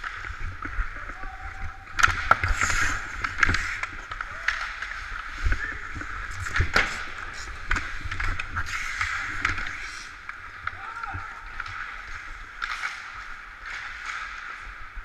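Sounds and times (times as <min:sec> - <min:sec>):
hockey sticks and puck clacking: 0:00.0 - 0:15.0
skates scraping on ice: 0:00.0 - 0:15.0.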